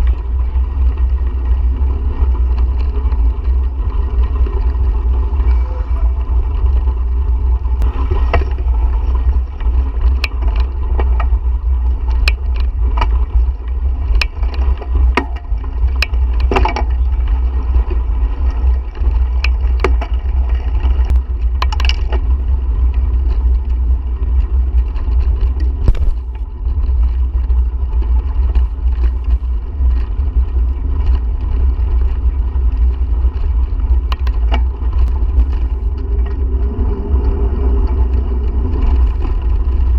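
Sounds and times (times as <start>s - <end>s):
sharp clicks and rattles: 0.0s - 39.9s
wind buffeting microphone: 0.0s - 39.9s.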